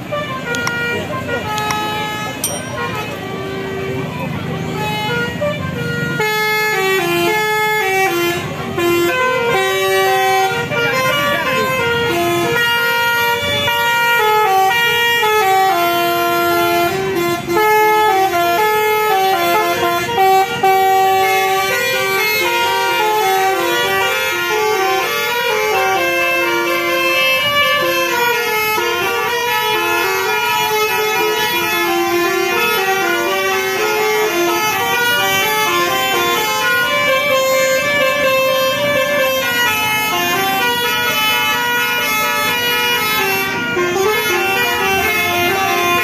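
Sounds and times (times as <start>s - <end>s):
bus air horns playing melody: 0.0s - 46.0s.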